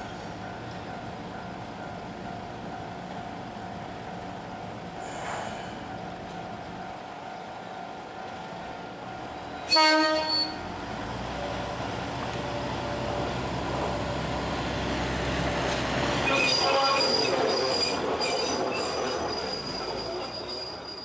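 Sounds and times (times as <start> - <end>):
railbus engine rumble: 0.0 - 21.0.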